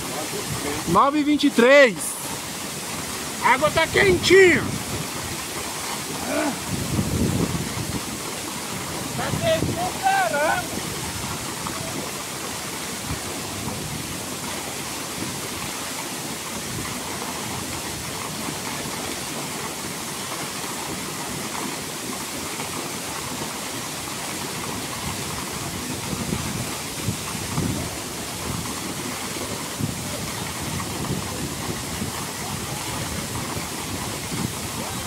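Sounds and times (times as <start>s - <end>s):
waterfall rushing onto rocks: 0.0s - 35.0s.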